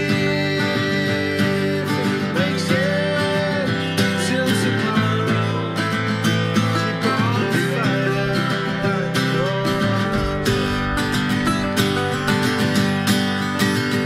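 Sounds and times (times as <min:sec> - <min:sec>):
acoustic guitars picked and strummed: 0:00.0 - 0:14.0
man singing: 0:00.0 - 0:14.0.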